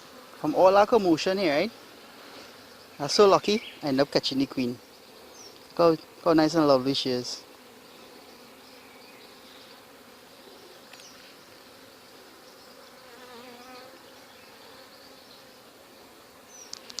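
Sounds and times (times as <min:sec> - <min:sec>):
bees humming: 0:00.0 - 0:17.0
single bee buzzing: 0:00.0 - 0:17.0.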